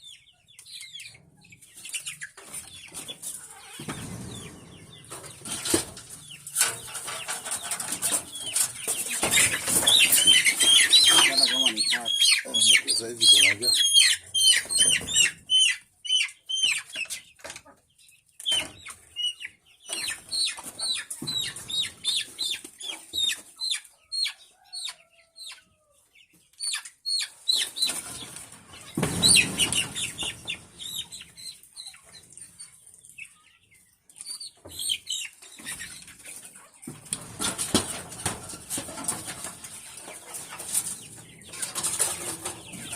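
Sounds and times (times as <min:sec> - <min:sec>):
chickens peeping and clucking: 0:00.0 - 0:42.9.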